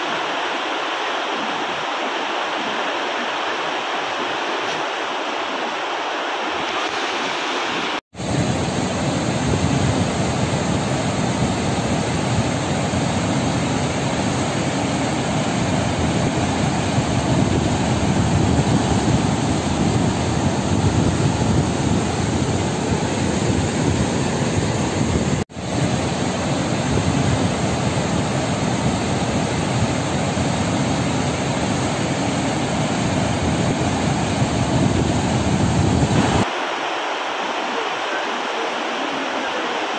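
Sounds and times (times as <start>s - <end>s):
river rushing over a weir: 0.0s - 39.9s.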